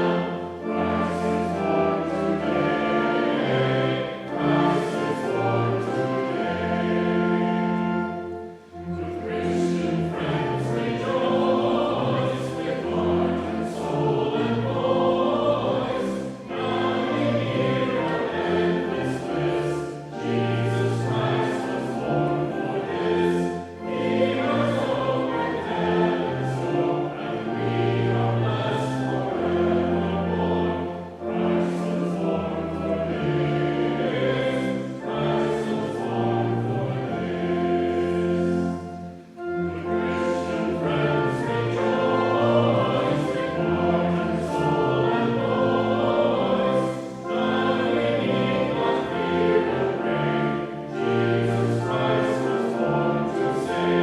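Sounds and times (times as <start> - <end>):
group singing a hymn: 0.0 - 54.0
instrumental accompaniment: 0.0 - 54.0.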